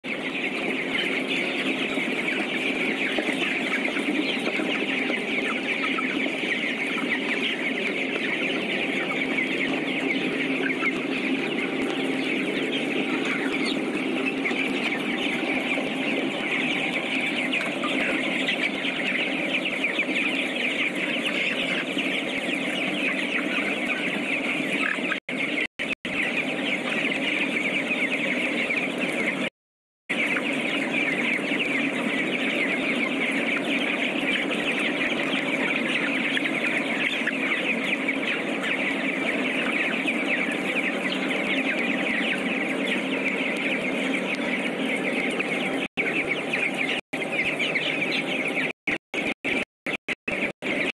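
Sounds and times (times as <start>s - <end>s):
chicks peeping and chirping: 0.0s - 50.9s.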